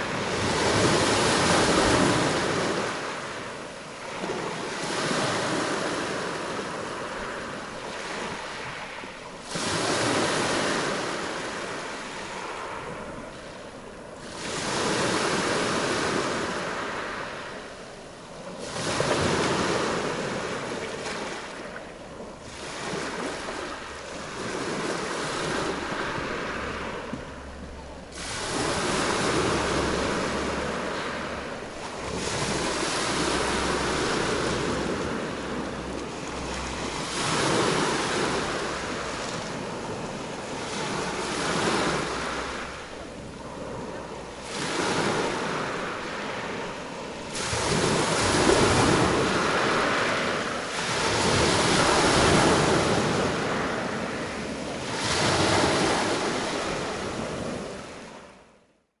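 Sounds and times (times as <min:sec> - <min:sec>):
wind on microphone: 0:00.0 - 0:58.4
waves breaking on shore: 0:00.0 - 0:58.8.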